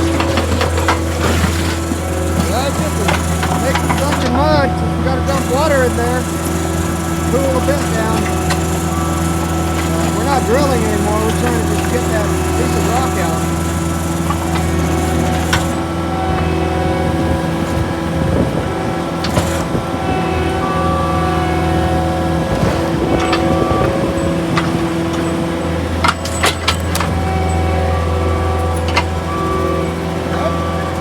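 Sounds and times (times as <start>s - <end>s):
drilling machine engine running: 0.0s - 31.0s.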